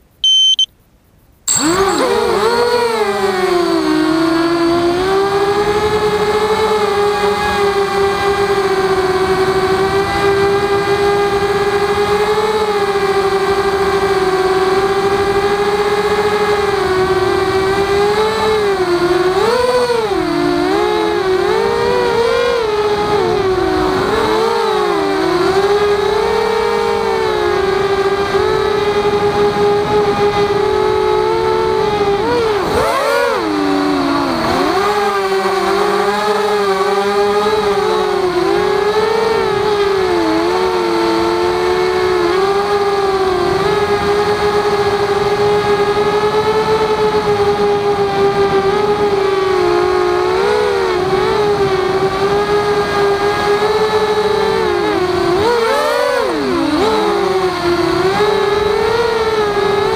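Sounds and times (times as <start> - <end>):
quadcopter motors whining: 1.5 - 59.9.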